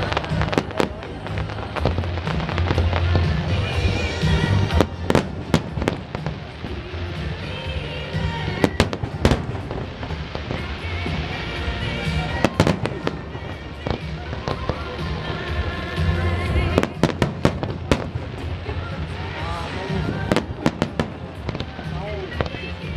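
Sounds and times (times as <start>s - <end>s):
disco music with heavy bass: 0.0s - 22.9s
fireworks bursting: 0.0s - 22.9s.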